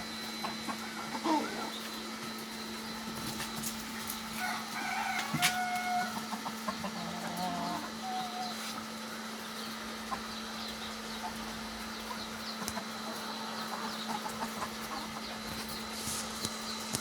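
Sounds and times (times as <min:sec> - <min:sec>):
chickens clucking: 0:00.0 - 0:17.0
steady low hum: 0:00.0 - 0:17.0.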